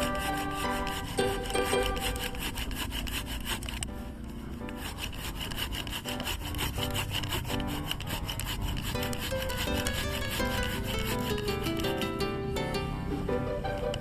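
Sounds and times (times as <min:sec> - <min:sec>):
hand saw cutting wood: 0:00.0 - 0:03.9, 0:04.6 - 0:12.2.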